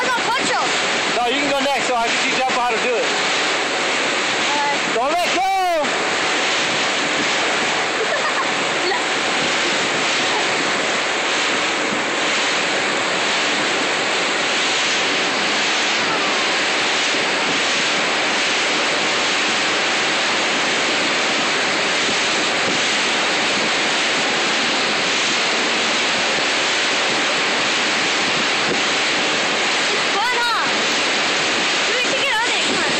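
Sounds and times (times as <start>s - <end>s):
motorboat wake rushing: 0.0s - 32.9s
wind on microphone: 0.0s - 32.9s.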